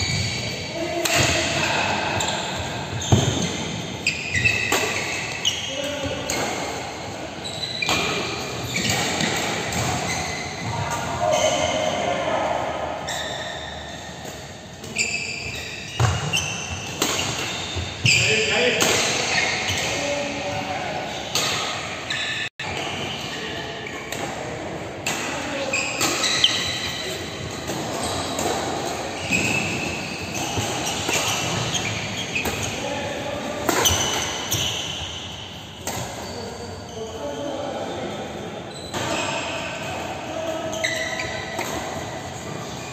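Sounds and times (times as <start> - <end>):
shoes squeaking on court floor: 0.0 - 24.2, 25.2 - 42.9.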